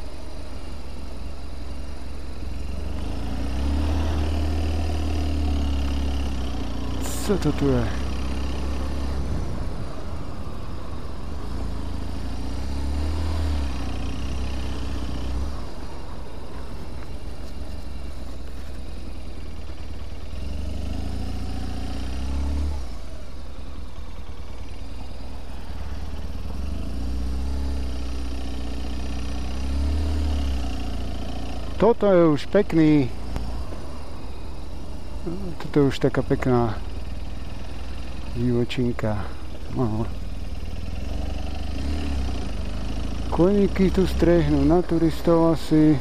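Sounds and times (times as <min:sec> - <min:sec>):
motorcycle engine accelerating: 0:02.4 - 0:46.0.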